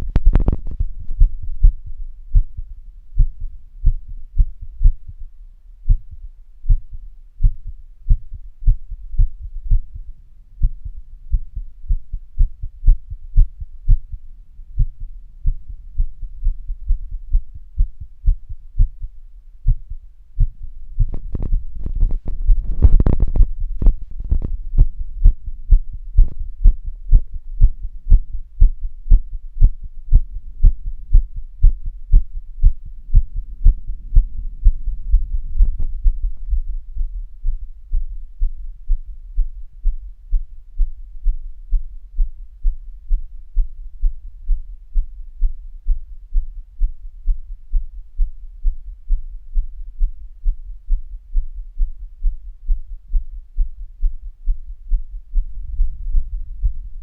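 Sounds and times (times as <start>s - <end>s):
heartbeat thumps: 0.0s - 57.0s
soft noise: 0.0s - 57.0s.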